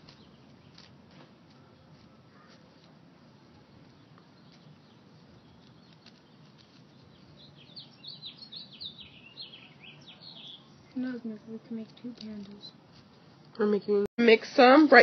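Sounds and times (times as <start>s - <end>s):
bird chirping: 0.0s - 13.6s.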